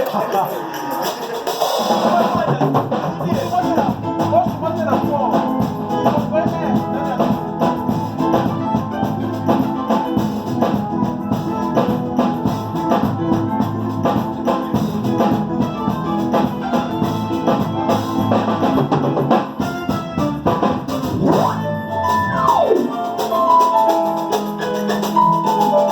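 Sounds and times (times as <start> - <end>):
music with steady drum beat: 0.0 - 25.9.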